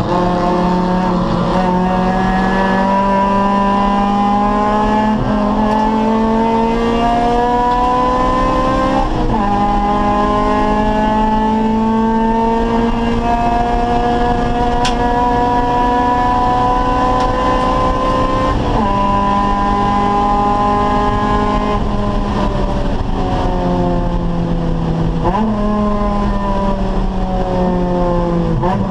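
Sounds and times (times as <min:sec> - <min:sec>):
engine revs from downshifts: 0:00.0 - 0:28.9
race car engine accelerating: 0:00.0 - 0:28.9.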